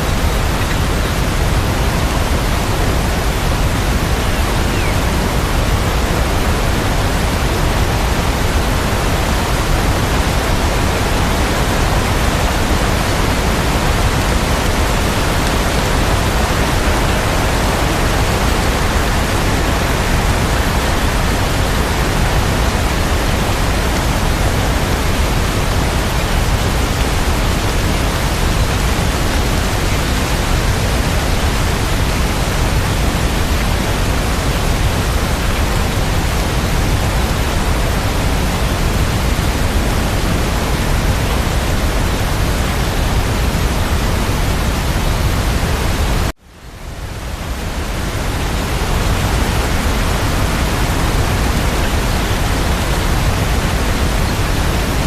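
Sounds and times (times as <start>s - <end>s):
dense rain: 0.0s - 55.0s.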